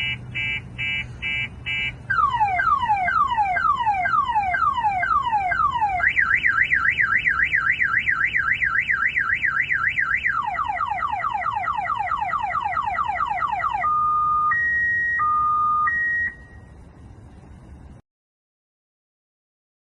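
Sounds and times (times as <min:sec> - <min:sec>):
car alarm siren: 0:00.0 - 0:16.7.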